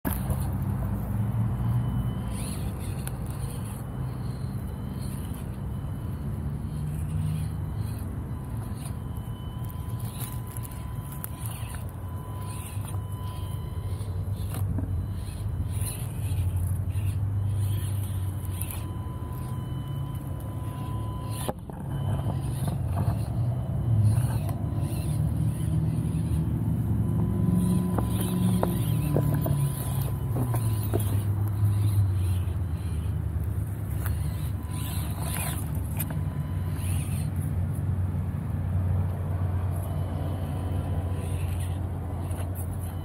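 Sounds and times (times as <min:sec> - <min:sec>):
small electric motor whirring: 0:00.1 - 0:43.0.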